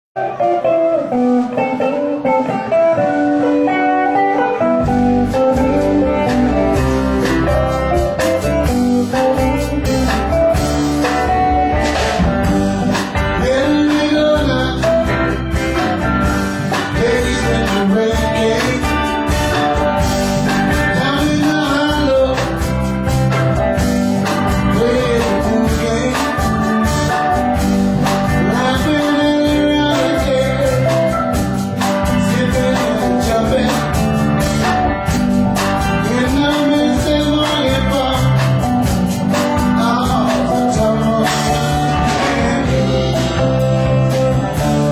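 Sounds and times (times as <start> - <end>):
person singing: 0.2 - 23.4, 24.2 - 34.9, 35.8 - 44.9
live blues band: 0.2 - 44.9.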